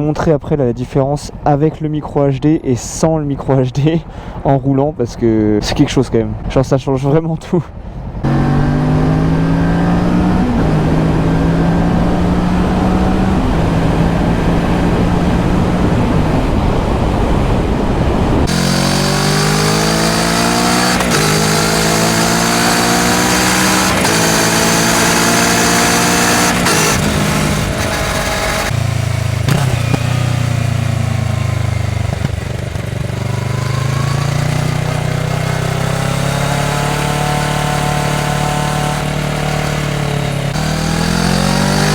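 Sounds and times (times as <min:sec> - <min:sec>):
motorcycle engine accelerating: 0:08.1 - 0:41.9.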